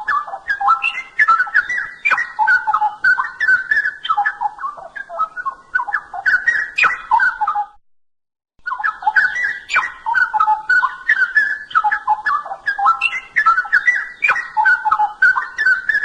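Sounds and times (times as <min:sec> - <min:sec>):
bulbul singing whistled notes: 0:00.0 - 0:07.8, 0:08.6 - 0:16.0.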